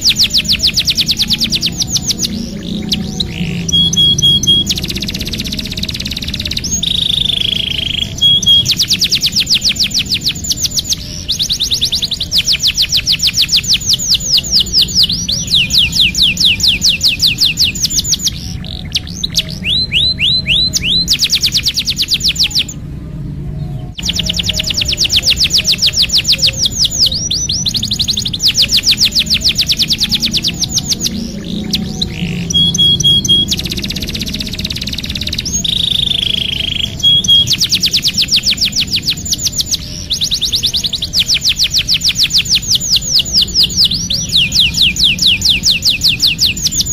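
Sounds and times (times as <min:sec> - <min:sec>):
canary singing trills: 0:00.0 - 0:46.9
steady low hum: 0:00.0 - 0:46.9.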